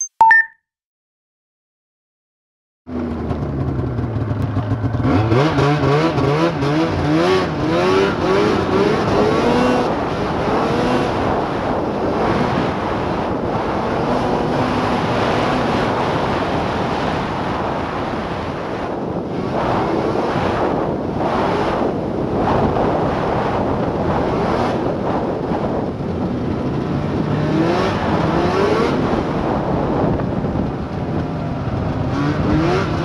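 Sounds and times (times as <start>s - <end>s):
snowmobile engine revving: 4.2s - 30.1s, 31.6s - 33.0s.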